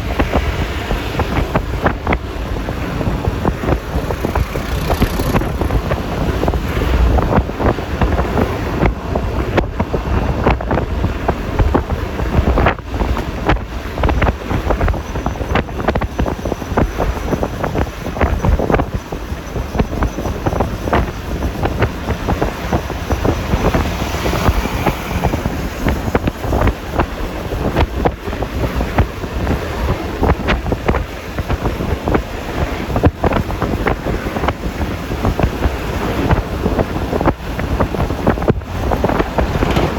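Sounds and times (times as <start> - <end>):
scooter engine: 0.0 - 39.9
tyre noise on road: 0.0 - 39.9
wind buffeting microphone: 0.0 - 39.9.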